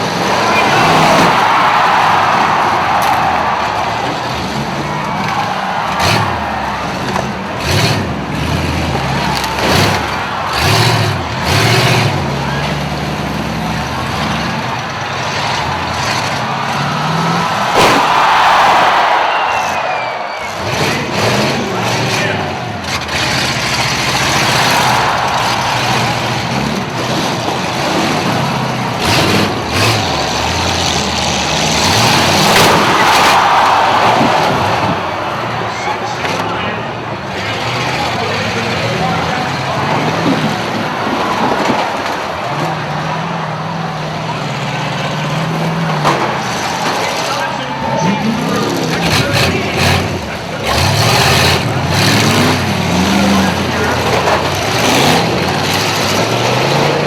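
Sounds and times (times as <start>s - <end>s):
vehicle engines revving: 0.0s - 57.0s.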